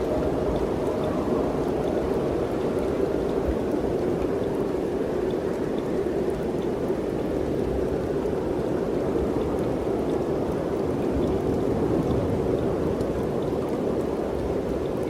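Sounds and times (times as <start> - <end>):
steady mountain wind: 0.0 - 15.0.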